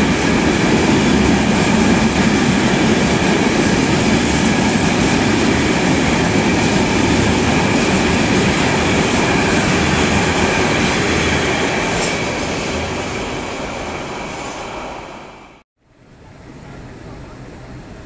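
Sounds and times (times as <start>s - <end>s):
train wheels on rails: 0.0s - 15.6s.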